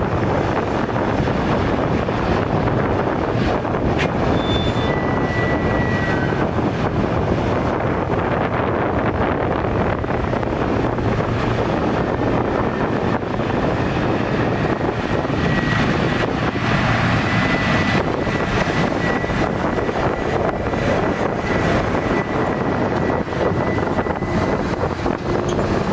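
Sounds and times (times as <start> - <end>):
diesel machinery engine drone: 0.0 - 25.9
wind buffeting microphone: 0.0 - 25.9.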